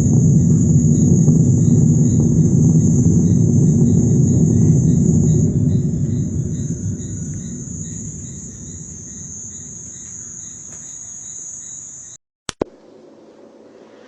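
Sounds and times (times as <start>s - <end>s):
low rumble: 0.0s - 11.3s
high insect trill: 0.0s - 12.2s
pulsing chirp: 0.0s - 12.2s.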